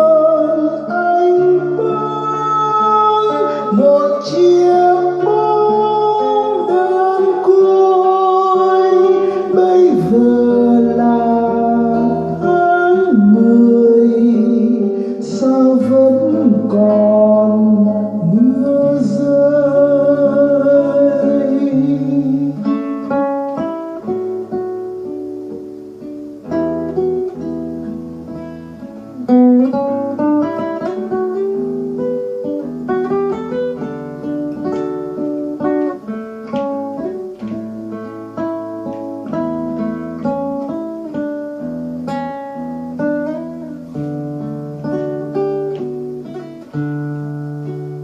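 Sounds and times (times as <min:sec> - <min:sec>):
acoustic guitar picking melody: 0:00.0 - 0:48.0.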